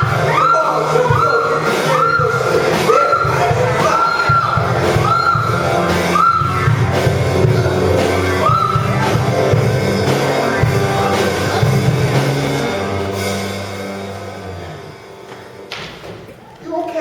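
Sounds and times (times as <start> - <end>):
rock-style music: 0.0 - 16.2.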